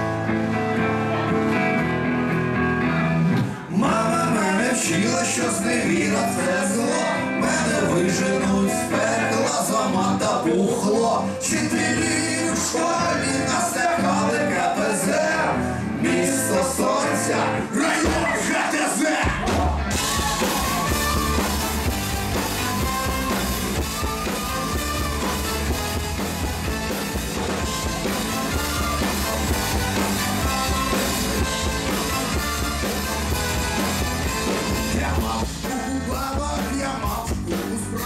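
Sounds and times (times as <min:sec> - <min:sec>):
live rock band playing: 0:00.0 - 0:38.0
man singing lead vocals: 0:03.5 - 0:25.3, 0:27.6 - 0:38.0.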